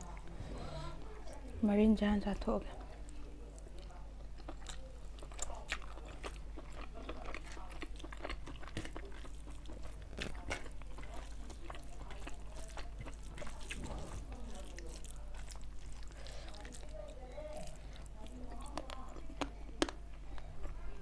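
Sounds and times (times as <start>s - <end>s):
wet chewing and lip smacks: 3.0s - 20.8s
fingers squishing rice: 3.6s - 20.4s.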